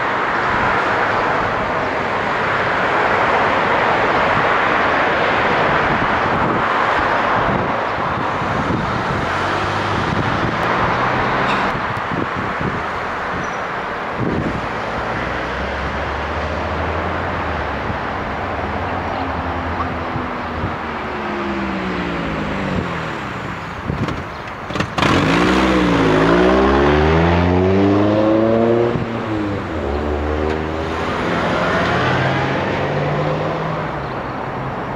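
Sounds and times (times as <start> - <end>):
car engine: 0.0 - 34.9
traffic and wind hiss: 0.0 - 34.9
vehicle accelerating: 2.9 - 13.5, 14.1 - 34.7.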